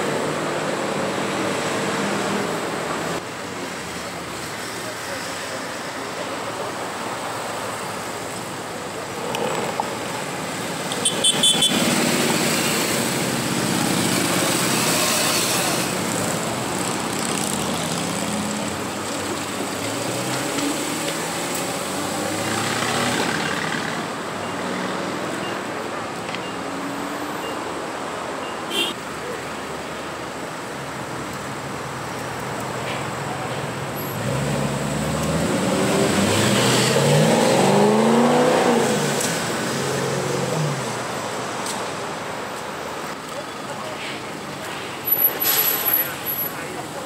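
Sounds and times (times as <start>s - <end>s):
street traffic: 0.0s - 47.0s.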